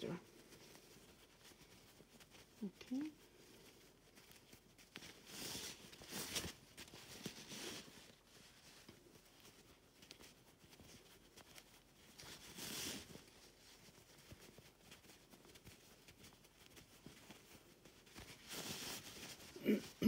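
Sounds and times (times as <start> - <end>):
fabric rustling: 0.0 - 20.0.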